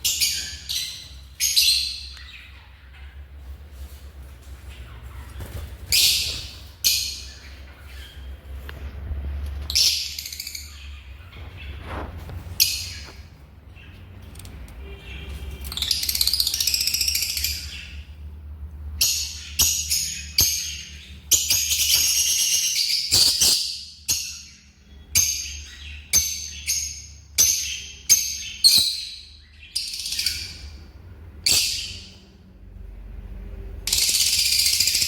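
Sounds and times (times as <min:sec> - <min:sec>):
lovebirds chirping: 0:00.0 - 0:35.0.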